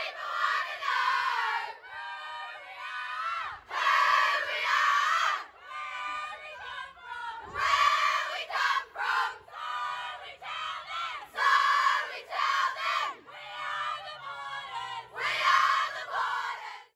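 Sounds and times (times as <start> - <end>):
young voices chanting and shouting: 0.0 - 16.9.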